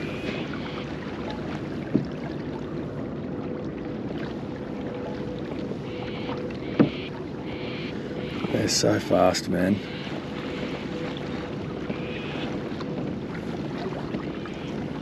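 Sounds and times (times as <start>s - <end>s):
water rushing against hull: 0.0s - 15.0s.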